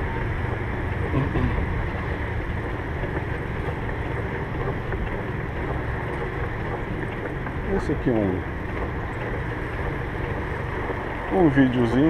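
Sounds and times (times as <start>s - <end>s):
bicycle rolling noise: 0.0s - 12.0s.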